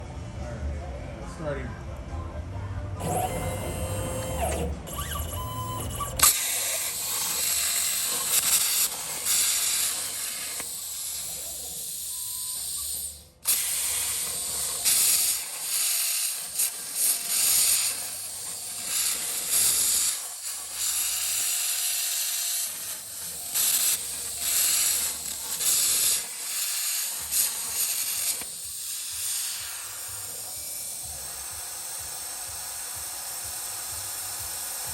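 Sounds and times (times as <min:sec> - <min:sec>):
plasma torch arc hissing: 0:06.2 - 0:34.9.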